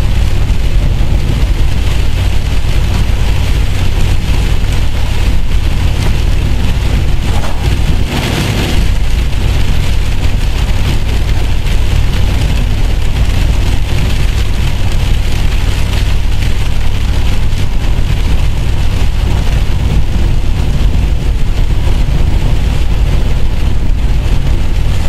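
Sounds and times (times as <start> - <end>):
car engine and road drone: 0.0 - 25.0
rain and tyres hissing on wet road: 0.0 - 25.0.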